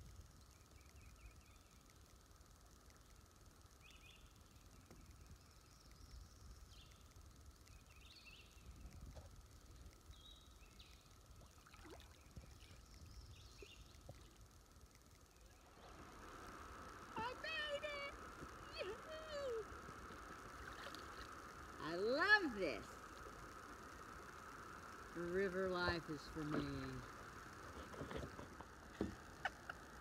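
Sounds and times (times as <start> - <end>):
river ambience rumble: 0.0 - 30.0.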